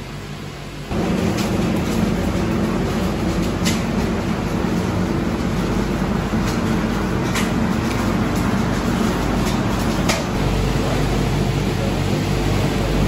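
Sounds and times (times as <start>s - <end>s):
loud steady noise with low hum: 0.0s - 13.0s.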